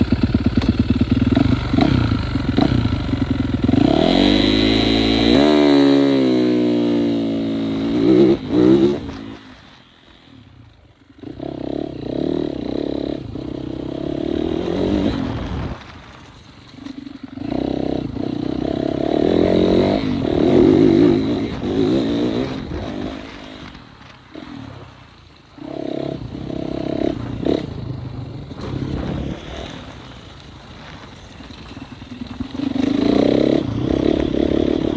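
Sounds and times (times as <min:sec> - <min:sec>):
motocross bikes revving past: 0:00.0 - 0:34.9.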